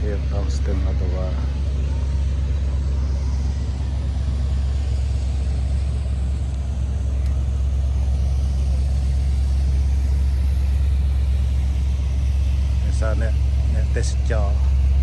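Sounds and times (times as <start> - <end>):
boat engine drone: 0.0 - 15.0
wind and water hiss: 0.0 - 15.0.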